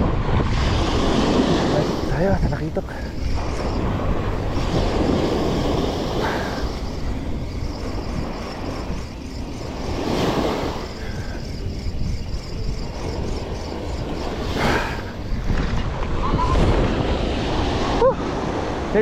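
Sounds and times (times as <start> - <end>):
sea waves: 0.0 - 19.0
wind buffeting microphone: 0.0 - 19.0.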